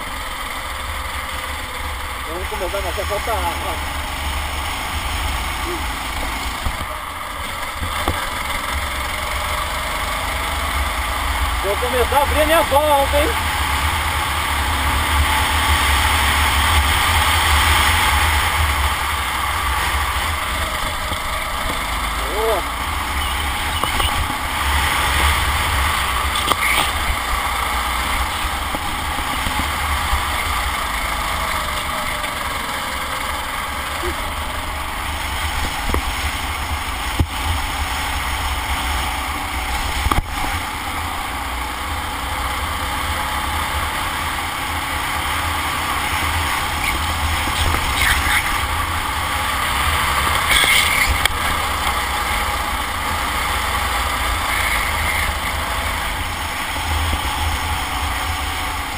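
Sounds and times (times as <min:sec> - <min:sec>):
kart engine racing: 0:00.0 - 0:58.9.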